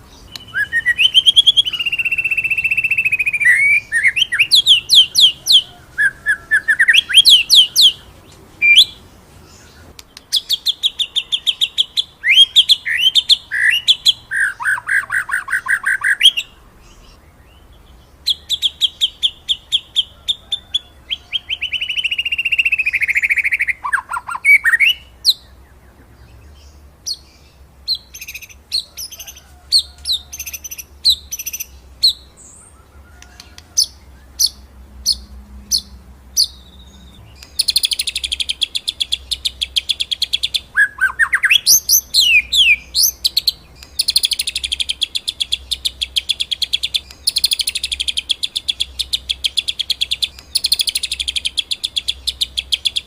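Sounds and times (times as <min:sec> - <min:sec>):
bird singing whistled notes: 0:00.0 - 0:53.0.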